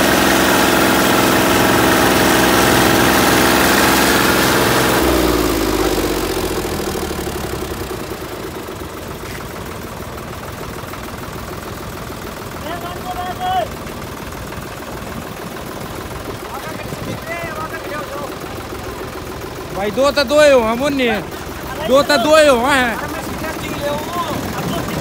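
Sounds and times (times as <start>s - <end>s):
tractor diesel engine: 0.0s - 25.0s.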